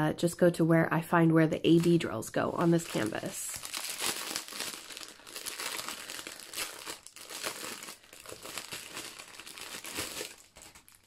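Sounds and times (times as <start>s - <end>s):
plastic wrapping crinkling: 1.7s - 11.0s.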